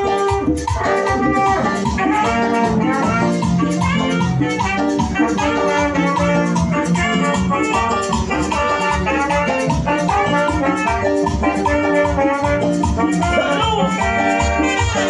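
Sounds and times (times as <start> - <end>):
live band playing dance music: 0.0 - 15.0
steady drumbeat: 0.0 - 15.0
sustained keyboard or brass notes: 0.0 - 15.0.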